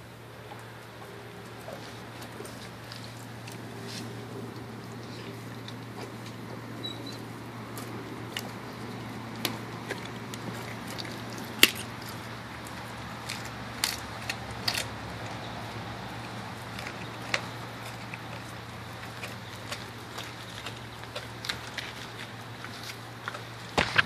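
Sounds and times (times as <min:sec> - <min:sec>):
dog chewing crunching bone: 0:00.5 - 0:24.0.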